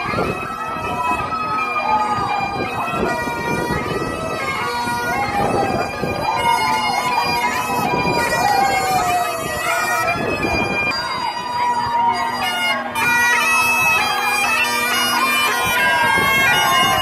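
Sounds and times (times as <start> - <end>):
bagpipes playing a march: 0.0 - 17.0.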